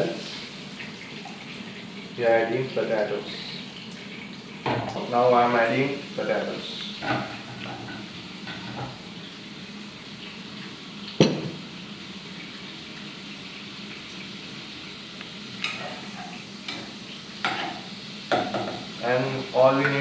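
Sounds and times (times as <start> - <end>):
potatoes sizzling in butter: 0.0 - 20.0.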